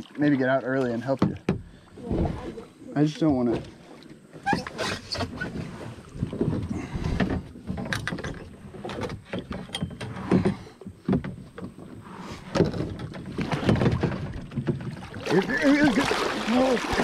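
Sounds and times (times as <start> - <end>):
kayak hull and paddle knocks: 0.8 - 2.6, 3.4 - 17.0.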